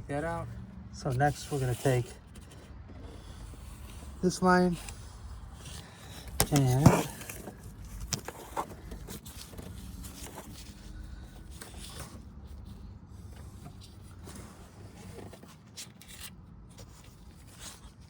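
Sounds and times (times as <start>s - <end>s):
low steady hum: 0.0s - 15.3s.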